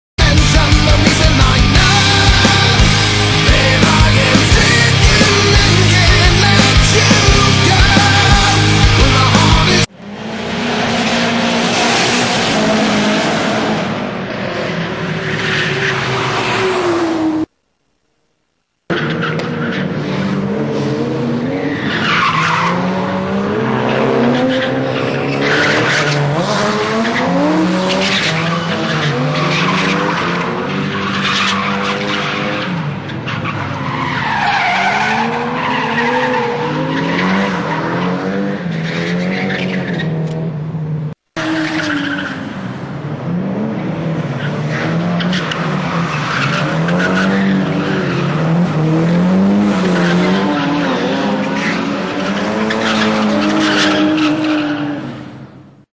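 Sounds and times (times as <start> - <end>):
car engines revving: 0.2 - 17.6, 18.9 - 55.9.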